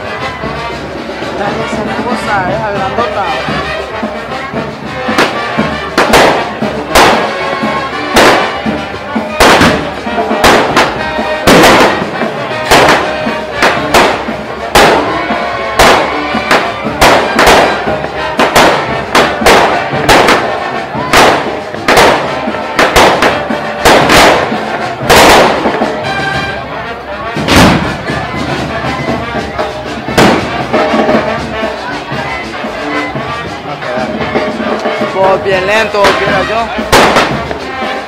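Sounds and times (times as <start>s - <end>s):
music playing: 0.0s - 38.0s
fireworks bangs: 4.6s - 38.0s.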